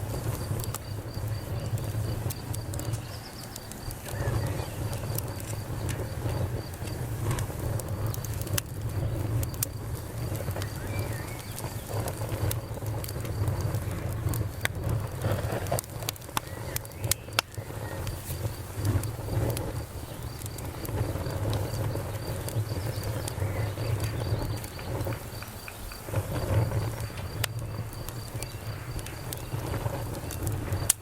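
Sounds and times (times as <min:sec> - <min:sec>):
campfire crackling and popping: 0:00.0 - 0:31.0
crickets chirping: 0:00.0 - 0:31.0.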